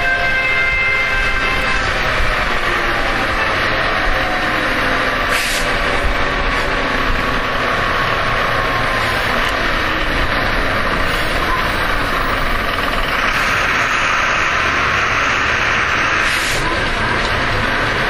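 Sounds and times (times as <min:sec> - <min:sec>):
bus diesel engine rumbling: 0:00.0 - 0:18.0.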